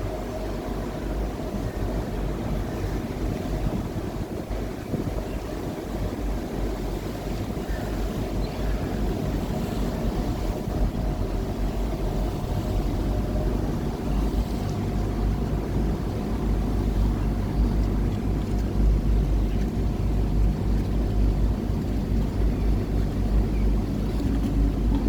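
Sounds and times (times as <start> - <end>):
boat engine rumbling: 0.0 - 25.0.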